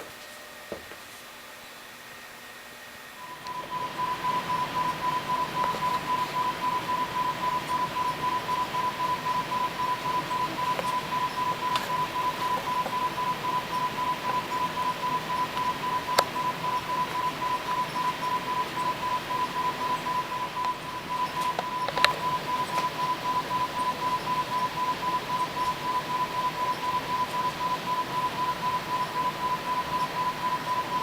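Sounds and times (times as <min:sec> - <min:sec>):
wavering test tone: 0:03.2 - 0:31.0.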